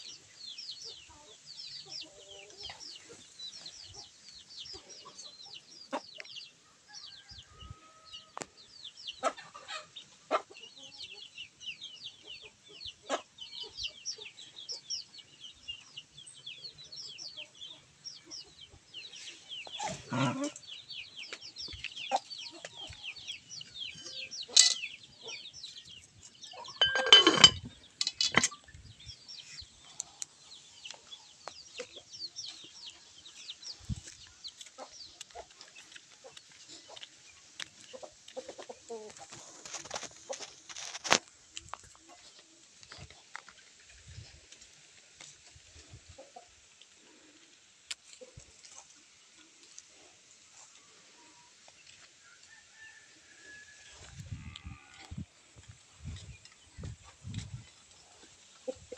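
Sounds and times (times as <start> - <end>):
chickens clucking: 0.8 - 6.5, 9.1 - 16.1, 16.8 - 52.1, 54.0 - 58.9.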